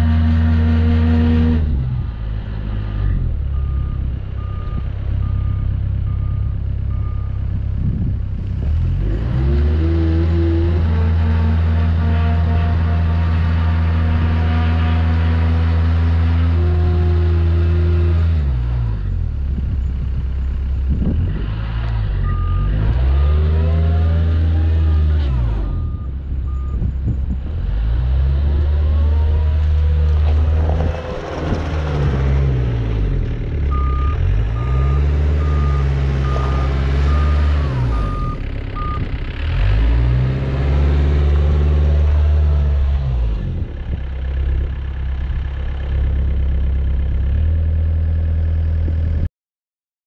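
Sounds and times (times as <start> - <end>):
excavator diesel engine: 0.0 - 49.3.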